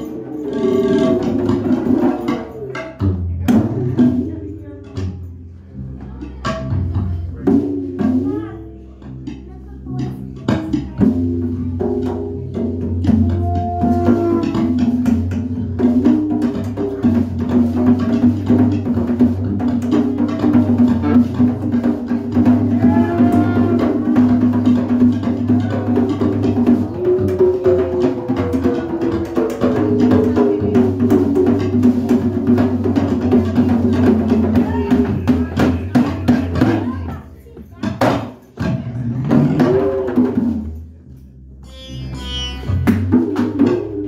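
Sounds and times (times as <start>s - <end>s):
hand drums in busy rhythm: 0.0s - 44.0s.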